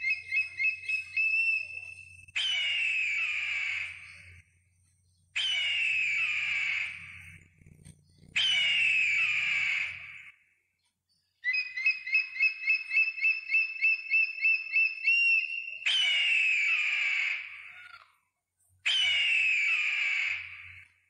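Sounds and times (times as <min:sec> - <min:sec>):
bird of prey screaming: 0:00.0 - 0:04.4, 0:05.4 - 0:10.4, 0:11.4 - 0:18.2, 0:18.8 - 0:21.0
high bird chirps: 0:00.0 - 0:18.2, 0:18.8 - 0:20.9.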